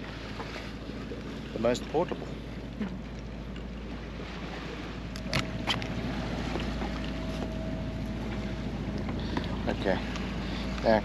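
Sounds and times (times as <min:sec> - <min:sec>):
boat noise at sea: 0:00.0 - 0:11.0
low hum: 0:00.0 - 0:11.0.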